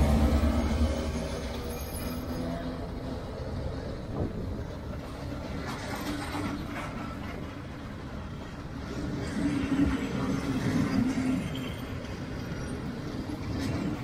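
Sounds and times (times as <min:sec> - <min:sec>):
diesel train engine rumbling: 0:00.0 - 0:14.0.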